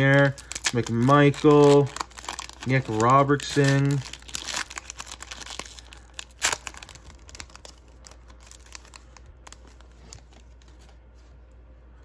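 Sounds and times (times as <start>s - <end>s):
foil wrapper tearing and crinkling: 0.0s - 10.5s.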